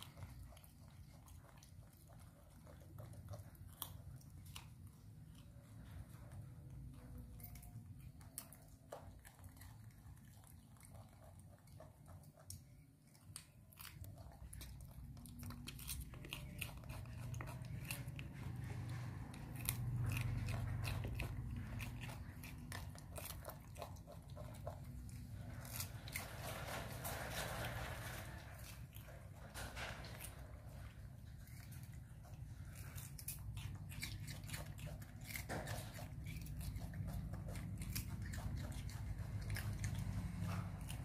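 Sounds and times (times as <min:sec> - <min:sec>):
low steady hum: 0:00.0 - 0:41.0
monkeys crunching vegetables: 0:00.0 - 0:41.0.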